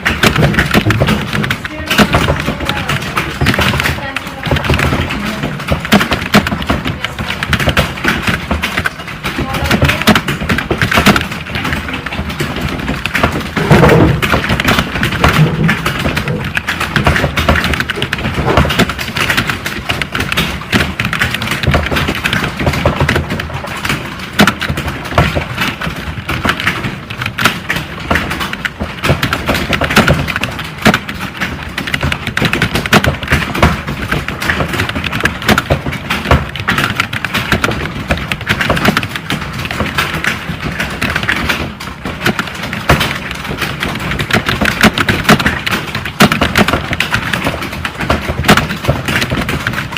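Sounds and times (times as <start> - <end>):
fast keyboard typing: 0.0 - 49.9.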